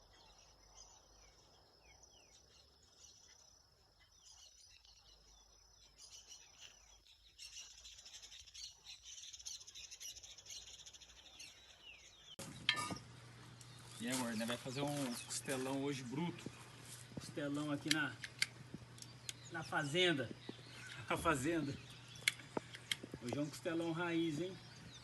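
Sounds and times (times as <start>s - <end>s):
faint birds chirping: 0.0s - 25.0s
rapid high bird chatter: 0.0s - 25.0s.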